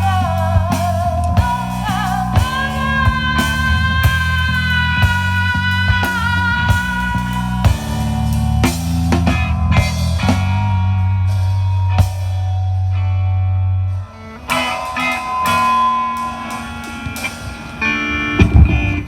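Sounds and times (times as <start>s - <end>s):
live rock band playing: 0.0s - 13.3s, 13.9s - 19.0s
electric guitar notes: 0.0s - 19.0s.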